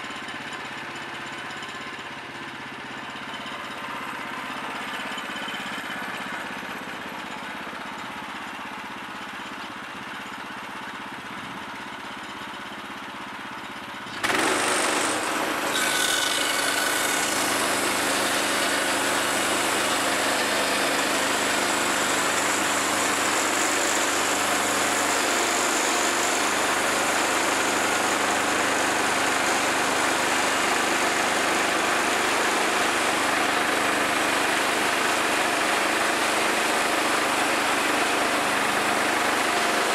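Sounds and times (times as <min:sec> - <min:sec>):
bandsaw mill gas engine: 0:00.0 - 0:39.9.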